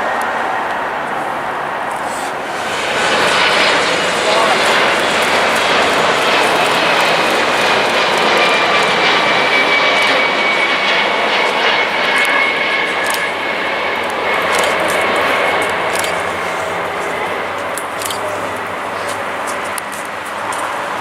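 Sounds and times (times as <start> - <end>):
jet engines roaring with whine: 0.0 - 21.0.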